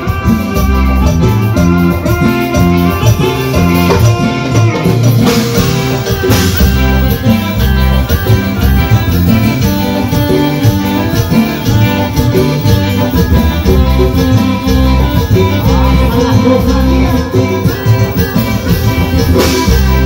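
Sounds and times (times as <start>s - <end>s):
live band playing dance tune: 0.0s - 20.0s.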